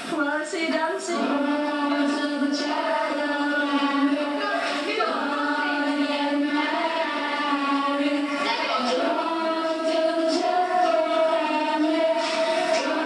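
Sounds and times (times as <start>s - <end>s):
girls singing together: 0.0s - 13.0s.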